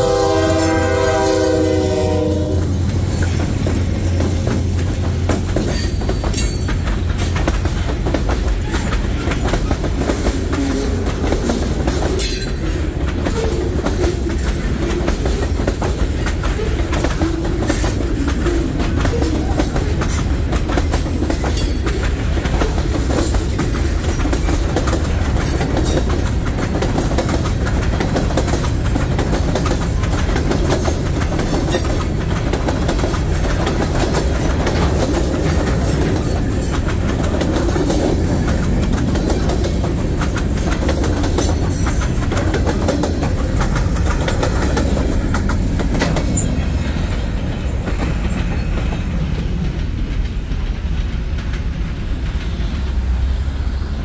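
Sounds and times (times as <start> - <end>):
freight train rumbling past: 0.0 - 54.0
wheels clicking over rail joints: 0.0 - 54.0.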